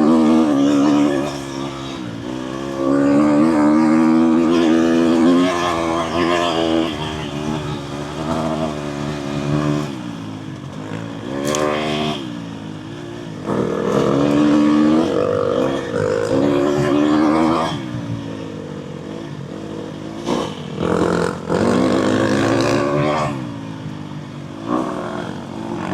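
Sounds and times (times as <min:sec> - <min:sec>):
dirt bike engine revving: 0:00.0 - 0:25.9.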